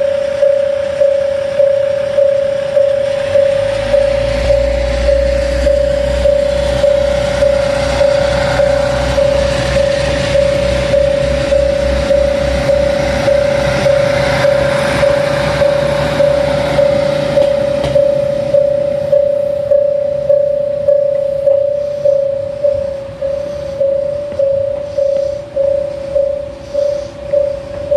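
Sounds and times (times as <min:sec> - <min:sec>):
diesel railcar engine rumble: 0:00.0 - 0:27.9
level crossing bell ringing: 0:00.0 - 0:27.9.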